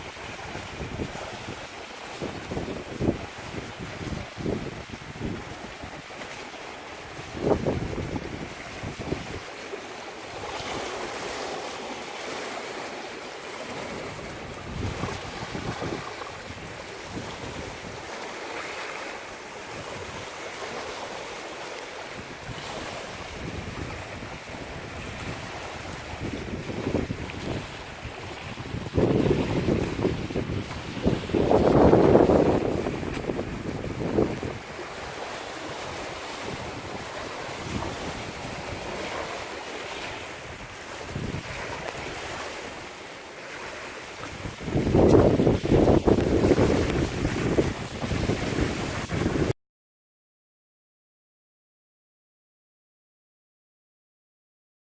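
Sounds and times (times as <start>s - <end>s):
wind buffeting microphone: 0.0s - 6.3s, 7.0s - 9.6s, 13.5s - 43.0s, 43.7s - 49.5s.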